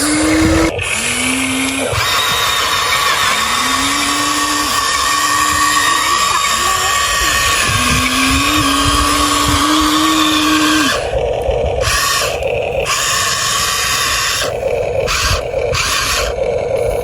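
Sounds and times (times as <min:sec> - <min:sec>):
toy excavator motors whirring: 0:00.0 - 0:17.0.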